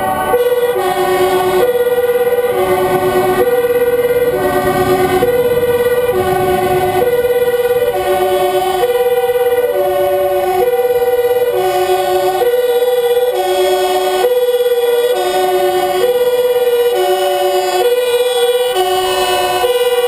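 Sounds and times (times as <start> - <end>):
engine and road noise: 0.0 - 20.0
two-tone fire engine siren: 0.0 - 20.0.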